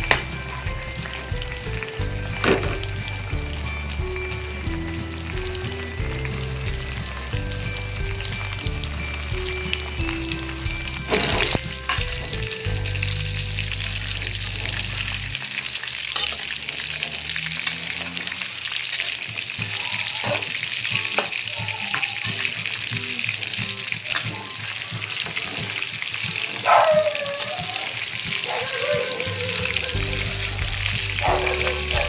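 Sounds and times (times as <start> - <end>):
pork sizzling in fat: 0.0 - 32.0.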